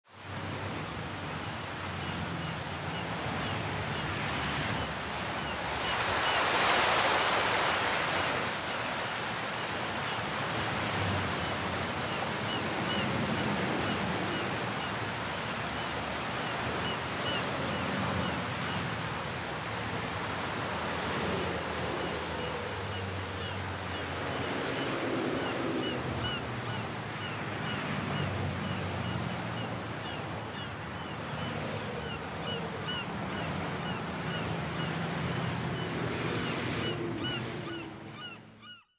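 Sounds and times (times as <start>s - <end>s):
wind: 0.0s - 38.9s
ocean surf: 0.1s - 38.6s.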